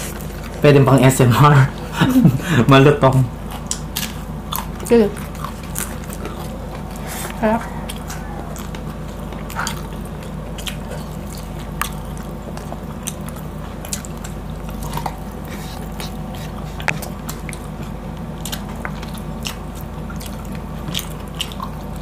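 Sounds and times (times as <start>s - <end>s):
steady low hum: 0.0s - 22.0s
person chewing: 3.1s - 22.0s.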